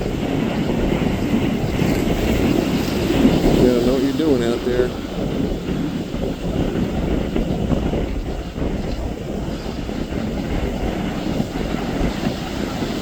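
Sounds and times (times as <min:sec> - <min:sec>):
rough surf rumbling: 0:00.0 - 0:13.0
wind buffeting microphone: 0:00.0 - 0:13.0.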